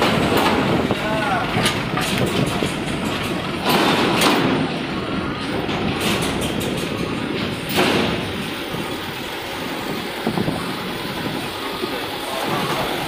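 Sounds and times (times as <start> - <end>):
truck engines running: 0.0 - 13.0.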